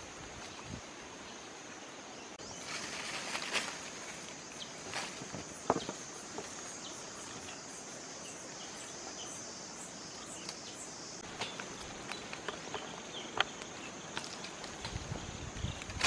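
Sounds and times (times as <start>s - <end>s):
insects chorus: 0.0s - 16.0s
leaves and twigs rustling: 0.0s - 16.0s.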